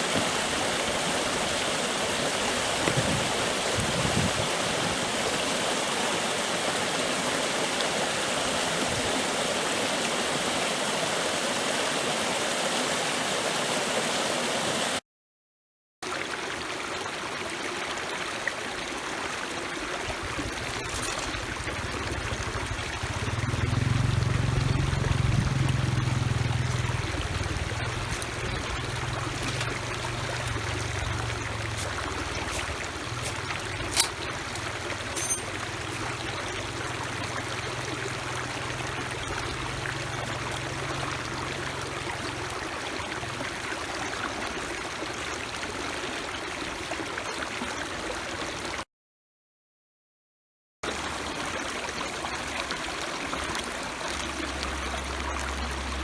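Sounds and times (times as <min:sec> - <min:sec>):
flowing water rushing: 0:00.0 - 0:15.0, 0:16.0 - 0:48.8, 0:50.9 - 0:56.0.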